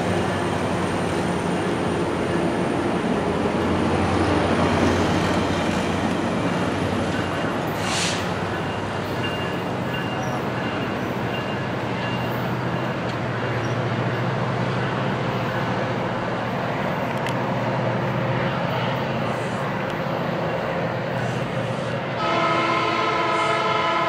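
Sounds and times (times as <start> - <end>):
diesel locomotive drone: 0.0 - 24.0
train rumbling on rails: 0.0 - 24.0.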